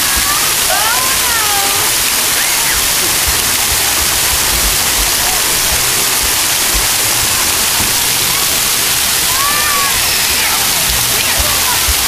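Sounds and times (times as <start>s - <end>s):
waterfall pouring onto water: 0.0s - 12.0s.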